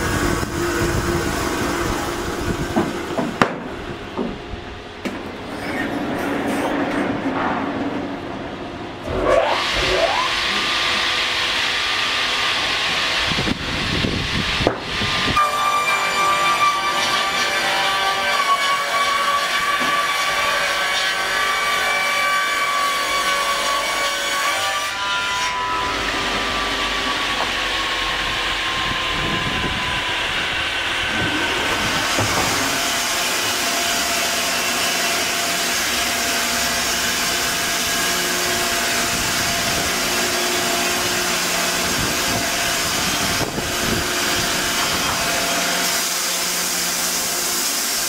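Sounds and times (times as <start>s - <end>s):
sawmill machine whine: 0.0s - 7.1s, 8.6s - 21.8s, 24.6s - 48.0s
band saw cutting log: 9.0s - 48.0s.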